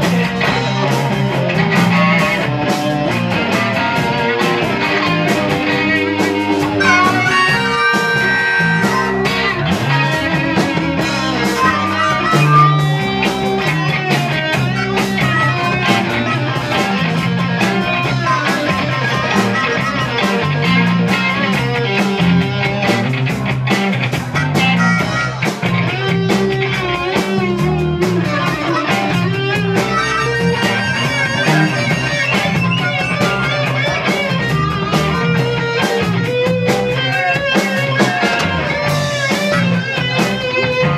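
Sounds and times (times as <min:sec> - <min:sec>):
bass guitar: 0:00.0 - 0:40.9
drums: 0:00.0 - 0:40.9
electric guitar: 0:00.0 - 0:40.9
harmonica: 0:00.5 - 0:23.1, 0:24.1 - 0:40.9.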